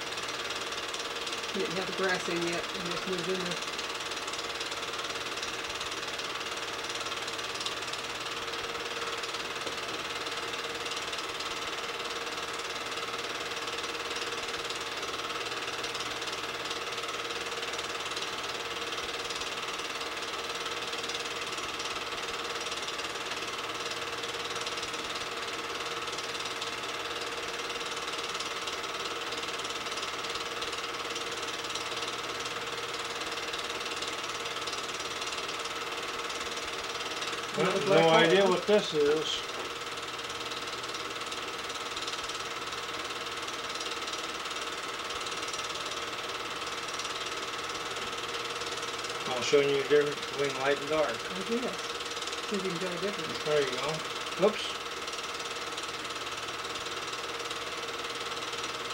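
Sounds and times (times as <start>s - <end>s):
film projector clatter: 0.0s - 58.9s
projector motor hum: 0.0s - 58.9s.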